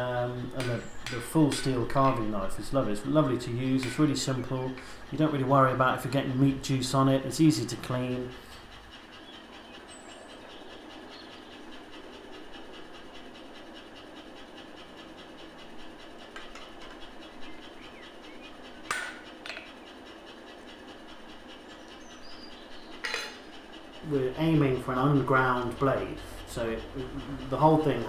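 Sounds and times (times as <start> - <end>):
forge humming: 0.0 - 28.0.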